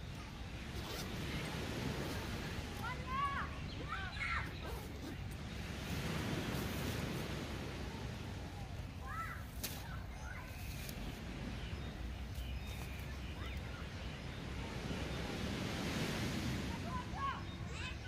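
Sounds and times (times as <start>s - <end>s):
small waves washing on shore: 0.0s - 18.0s.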